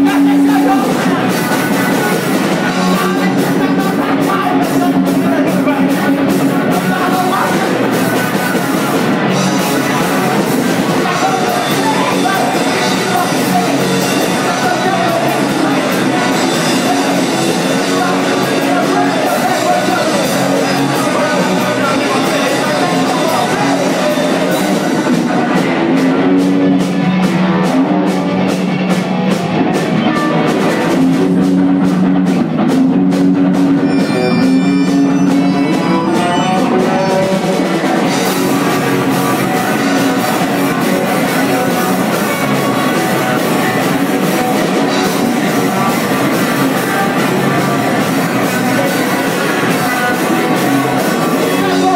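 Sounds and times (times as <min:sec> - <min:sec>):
person singing: 0:00.0 - 0:29.0, 0:29.6 - 0:51.9
drum kit: 0:00.0 - 0:51.9
electric guitars: 0:00.0 - 0:51.9.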